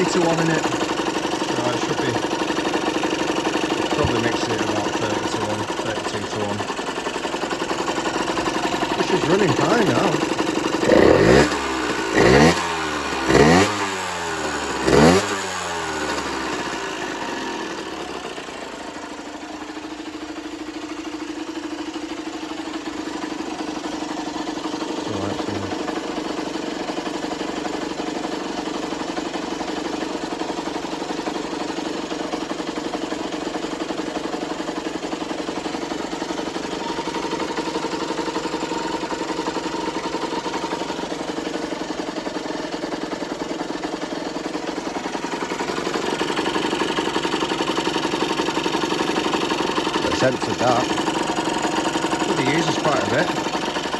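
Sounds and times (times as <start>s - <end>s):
two-stroke engine revving and idling: 0.0s - 53.9s.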